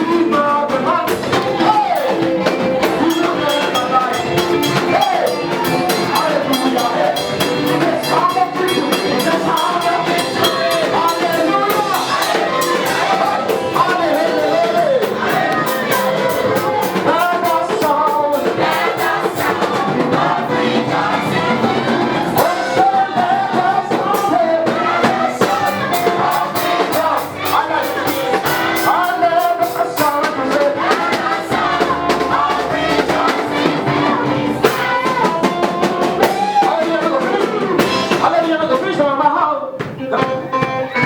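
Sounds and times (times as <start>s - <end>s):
drums keeping the beat: 0.0s - 41.0s
voices singing over a band: 0.0s - 41.0s.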